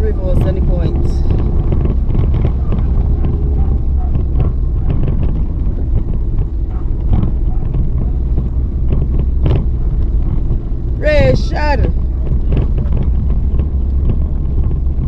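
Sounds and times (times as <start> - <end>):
car engine running: 0.0 - 15.0
road and tyre noise: 0.0 - 15.0.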